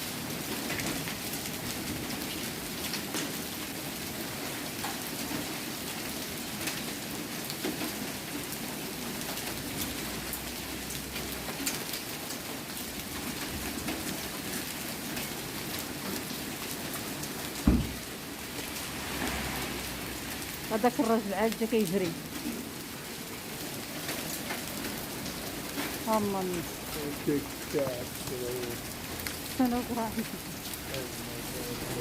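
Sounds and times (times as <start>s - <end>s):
heavy rain falling: 0.0s - 32.0s
raindrops ticking on hard surfaces: 0.0s - 32.0s.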